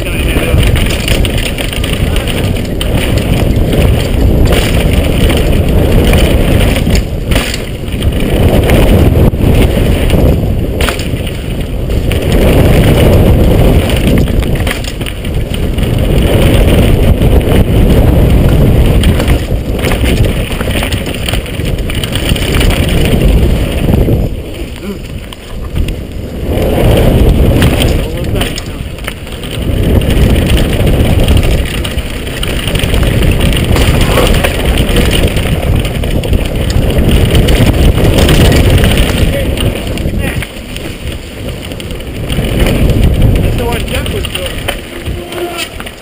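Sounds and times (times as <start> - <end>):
bike knocking and rattling: 0.0 - 46.0
tyres rumbling on dirt: 0.0 - 46.0
wind rushing over microphone: 0.0 - 46.0.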